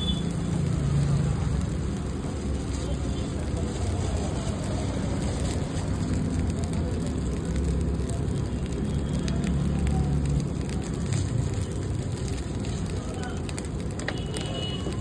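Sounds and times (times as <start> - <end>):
rice sizzling in a wok: 0.0 - 15.0.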